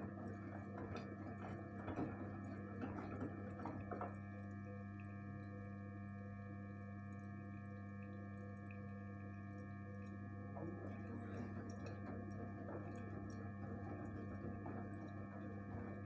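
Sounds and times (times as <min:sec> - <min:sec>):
washing machine hum and whine: 0:00.0 - 0:16.0.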